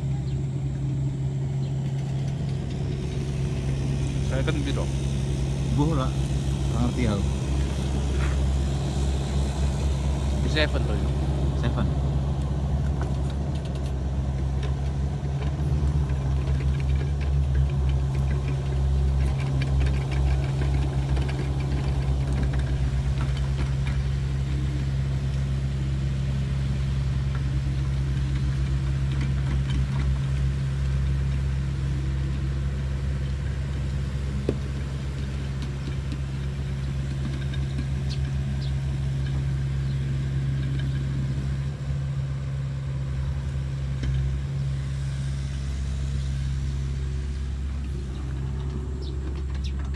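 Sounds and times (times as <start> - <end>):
diesel engine running: 0.0 - 49.9
light clatter: 1.6 - 45.7, 46.3 - 49.9.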